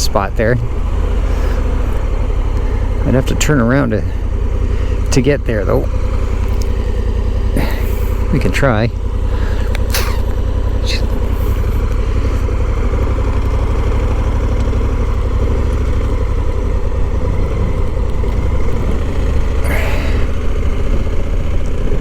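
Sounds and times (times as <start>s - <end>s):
motorcycle engine low rumble: 0.0s - 22.0s.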